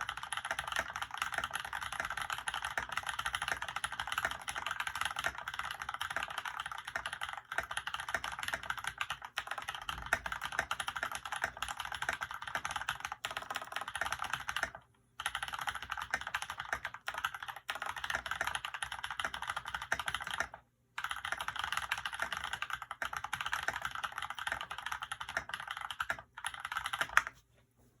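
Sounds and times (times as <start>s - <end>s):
mechanical keyboard typing: 0.0s - 27.4s.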